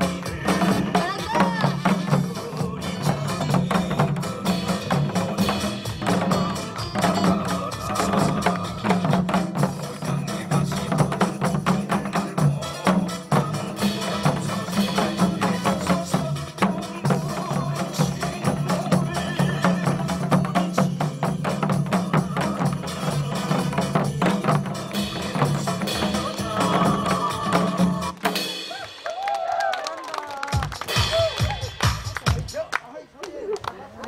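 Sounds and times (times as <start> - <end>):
backing music: 0.0 - 29.2, 30.5 - 32.8
hourglass drums played by a group: 0.0 - 29.3, 30.5 - 32.6.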